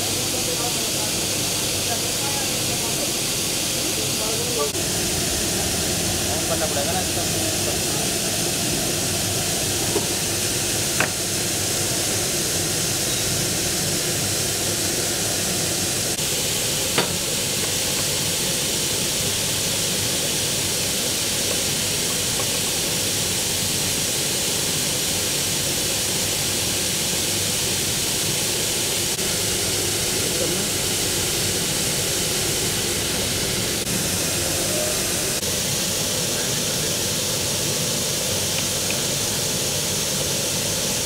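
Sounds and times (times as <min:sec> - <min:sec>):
steady pneumatic hissing: 0:00.0 - 0:41.0.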